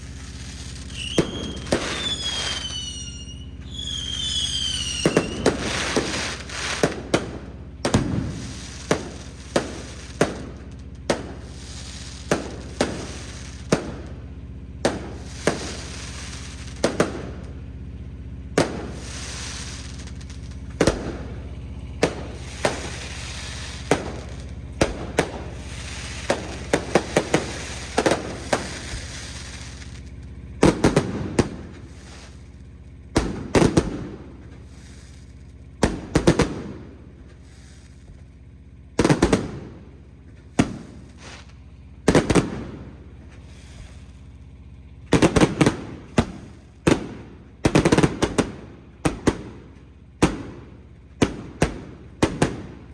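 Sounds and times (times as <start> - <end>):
fireworks bangs: 0.0 - 52.9
fireworks crackling: 0.0 - 52.9.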